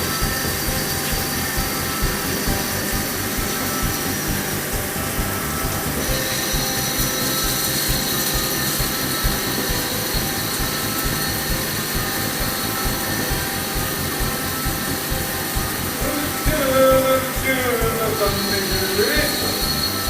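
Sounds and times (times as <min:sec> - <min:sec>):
high machine whine: 0:00.0 - 0:20.0
lathe machine running: 0:00.0 - 0:20.0.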